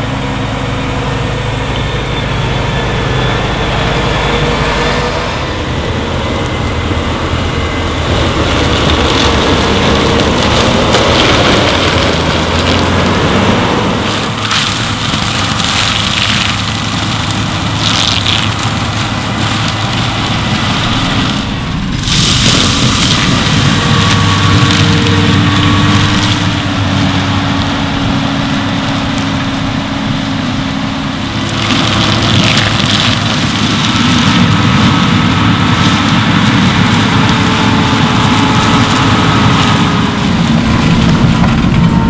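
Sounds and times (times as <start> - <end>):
mulcher shredding woody debris: 0.0 - 42.0
tractor diesel engine under load: 0.0 - 42.0.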